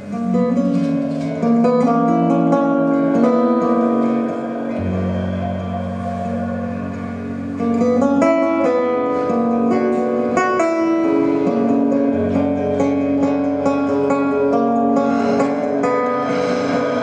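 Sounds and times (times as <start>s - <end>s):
acoustic guitar picking: 0.0s - 17.0s.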